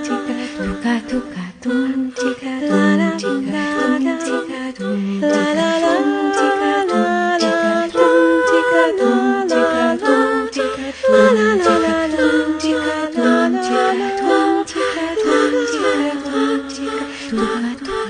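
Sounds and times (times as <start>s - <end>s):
voices singing in harmony: 0.0s - 18.0s.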